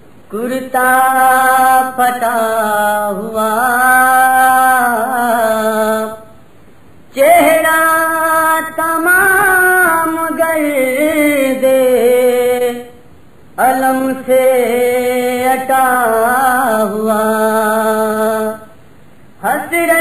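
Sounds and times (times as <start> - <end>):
man chanting: 0.3 - 6.4, 7.1 - 13.0, 13.6 - 18.8, 19.4 - 20.0.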